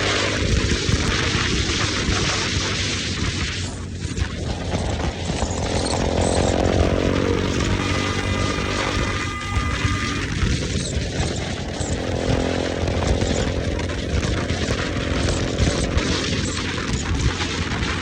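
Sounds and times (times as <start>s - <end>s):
heavy wind noise: 0.0s - 18.0s
motorcycle engine running: 0.0s - 18.0s.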